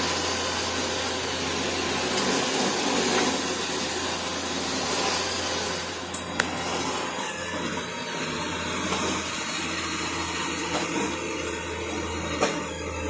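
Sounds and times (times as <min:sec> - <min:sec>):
robot vacuum running on carpet: 0:00.0 - 0:13.0.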